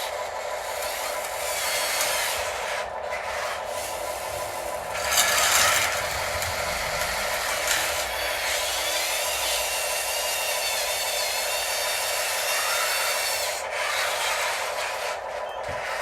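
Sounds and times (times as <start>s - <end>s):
small electric motors whining: 0.0s - 16.0s.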